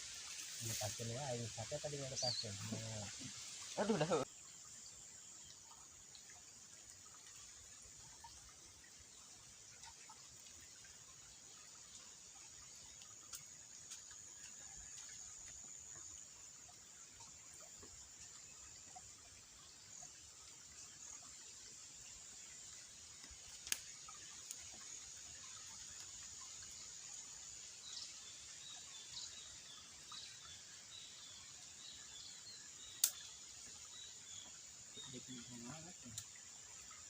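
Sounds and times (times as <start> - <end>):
insect drone: 0.0 - 37.0.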